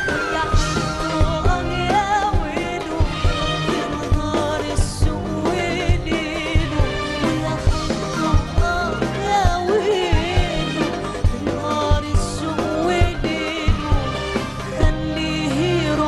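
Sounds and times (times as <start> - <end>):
percussion beat: 0.0 - 16.0
woman singing: 0.0 - 16.0.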